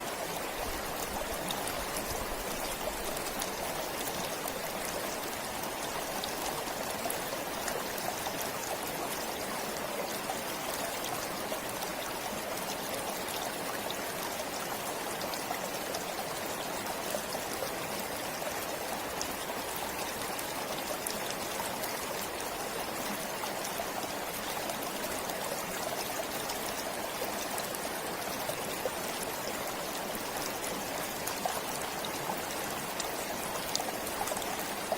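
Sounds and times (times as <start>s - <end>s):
stream flowing: 0.0s - 34.9s
water splashes and drips: 0.0s - 34.9s.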